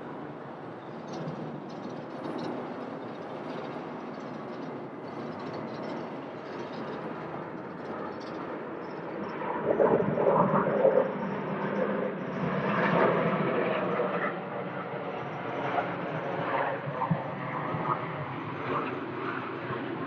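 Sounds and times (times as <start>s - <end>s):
distant jet rumble: 0.0s - 20.0s.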